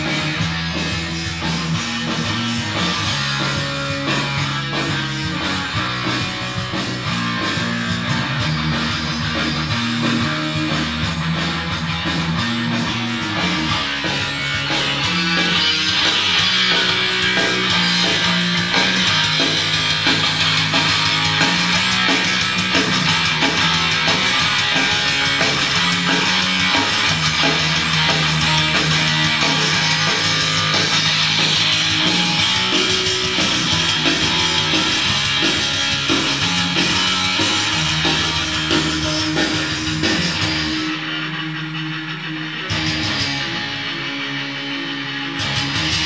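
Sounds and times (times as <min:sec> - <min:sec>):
strummed guitar music: 0:00.0 - 0:46.0.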